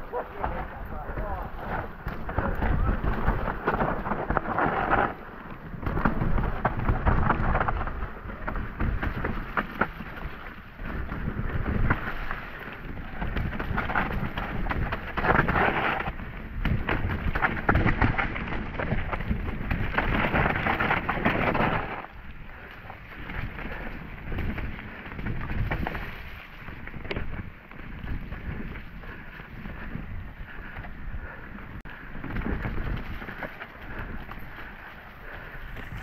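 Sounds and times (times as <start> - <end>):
bike clicks and rattles: 0.0 - 36.0
bike tyres rumbling over dirt: 0.0 - 36.0.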